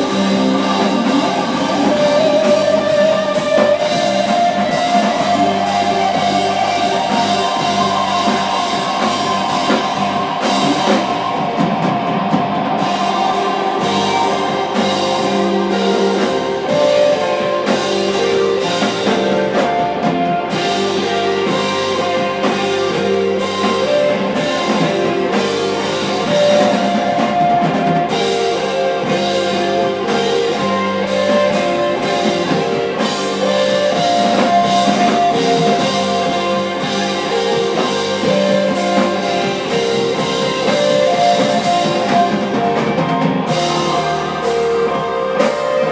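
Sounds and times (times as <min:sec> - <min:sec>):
drum kit with cymbals: 0:00.0 - 0:45.9
electric guitars sustained notes: 0:00.0 - 0:45.9.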